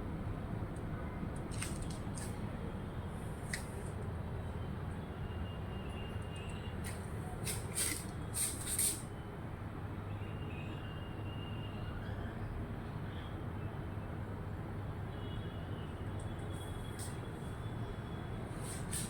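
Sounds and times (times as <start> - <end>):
traffic rumble: 0.0 - 10.1, 12.0 - 19.0.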